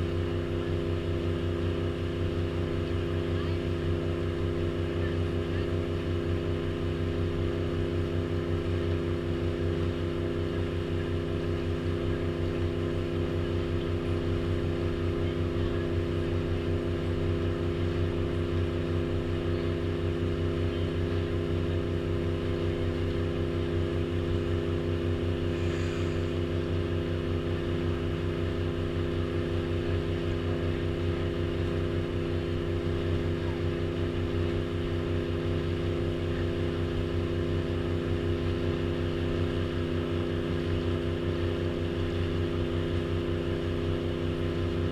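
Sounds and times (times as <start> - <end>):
boat engine drone: 0.0 - 44.9.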